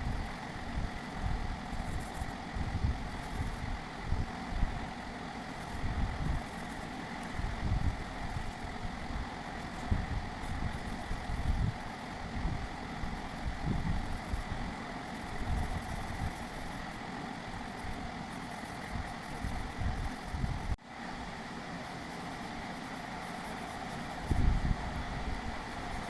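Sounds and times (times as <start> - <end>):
faint constant hum: 0.0 - 26.0.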